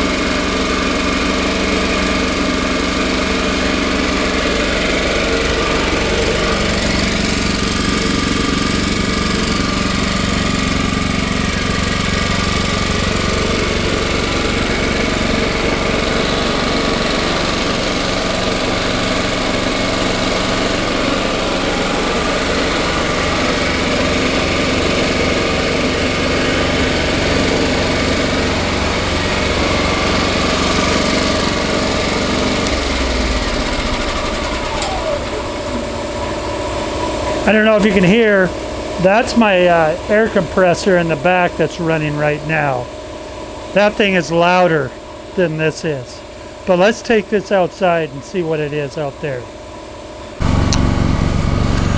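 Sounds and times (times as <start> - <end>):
air compressor running: 0.0 - 51.9
generator running: 0.0 - 51.9.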